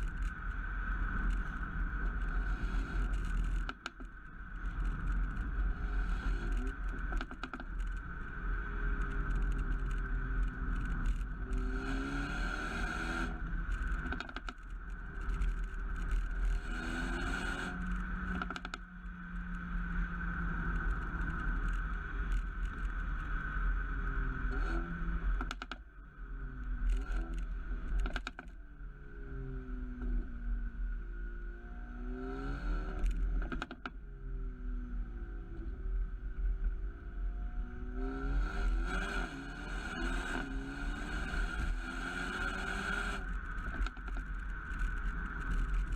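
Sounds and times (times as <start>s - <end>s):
exhaust pops and crackles: 0.0s - 34.0s, 34.8s - 45.9s
car engine accelerating: 0.0s - 45.9s.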